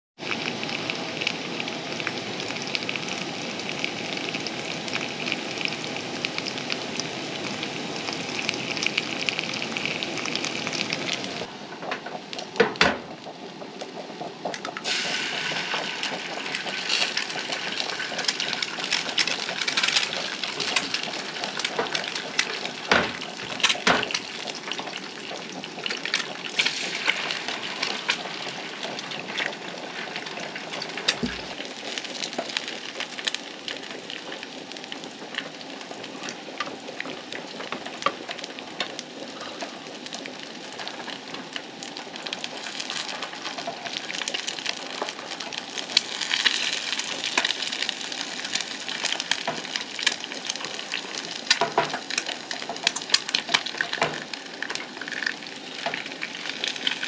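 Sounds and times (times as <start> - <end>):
food sizzling in a pan: 0.2 - 13.2, 14.5 - 57.0.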